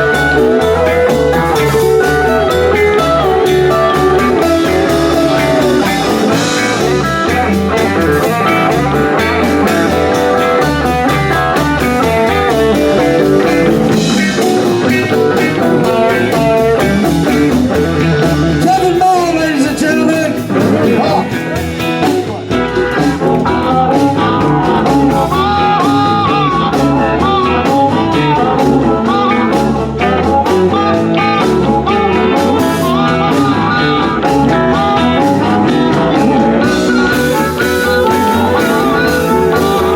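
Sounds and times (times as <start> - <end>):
bass guitar: 0.0 - 39.9
drums: 0.0 - 39.9
lead guitar bending notes: 0.0 - 39.9.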